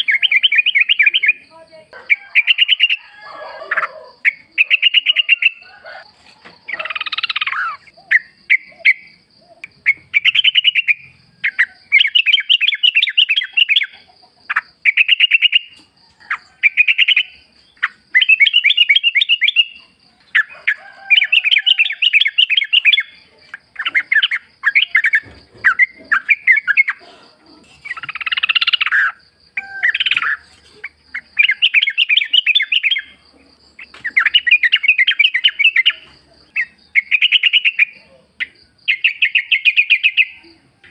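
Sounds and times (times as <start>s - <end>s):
bird singing chattering notes: 0.0s - 1.5s, 4.2s - 5.6s, 6.7s - 20.5s, 21.5s - 27.1s, 27.8s - 29.2s, 29.9s - 40.9s.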